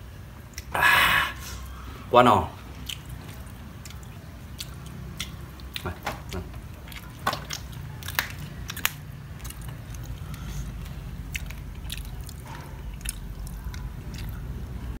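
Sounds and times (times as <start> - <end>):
person chewing and crunching food: 0.4 - 1.8, 2.6 - 15.0.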